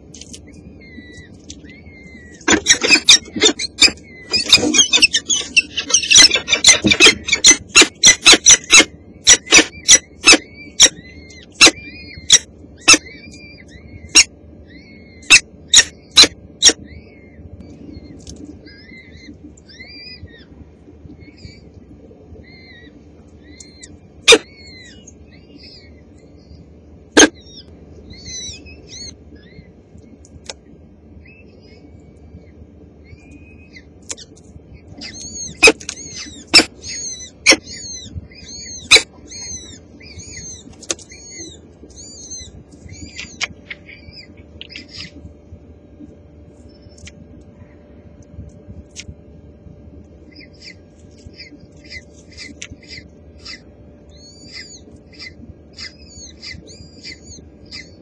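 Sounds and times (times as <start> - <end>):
falcon chicks cheeping: 0.0 - 30.6, 31.2 - 45.4, 50.1 - 58.0.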